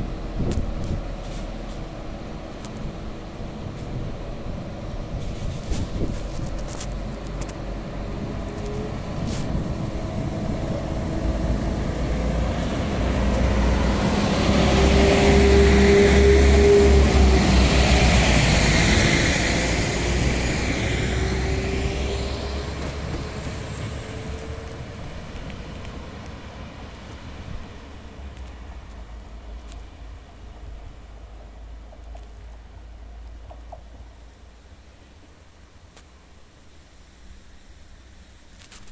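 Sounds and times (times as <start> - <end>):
diesel train passing: 0.0 - 35.7.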